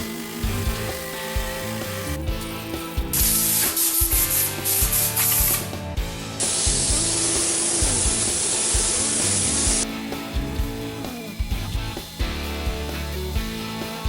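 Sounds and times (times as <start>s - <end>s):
spray gun hissing: 0.0s - 5.8s, 6.4s - 12.6s
background music: 0.0s - 14.0s.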